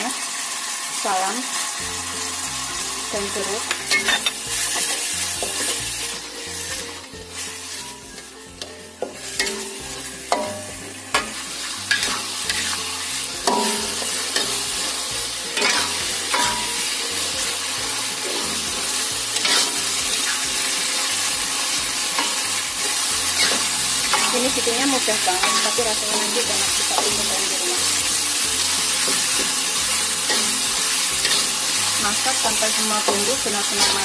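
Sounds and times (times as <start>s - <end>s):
spice paste sizzling in oil: 0.0s - 34.0s.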